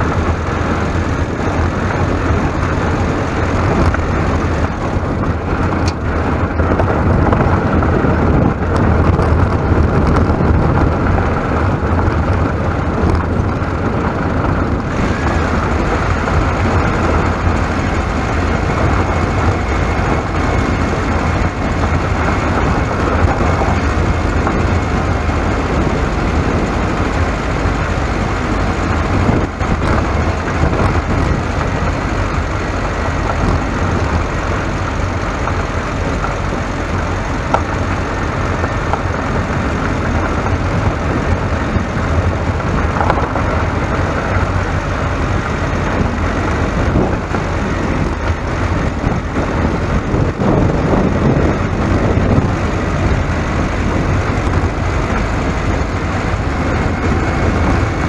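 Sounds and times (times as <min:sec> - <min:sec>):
vehicle rumbling along a road: 0:00.0 - 0:58.0.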